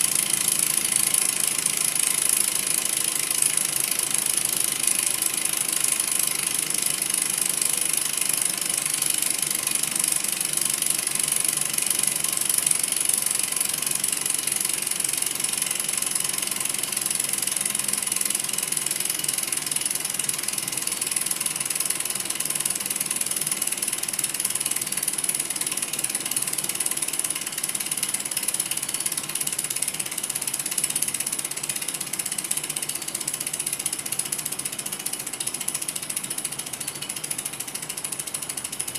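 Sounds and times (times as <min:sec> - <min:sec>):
model engine mechanical rattle: 0:00.0 - 0:38.9.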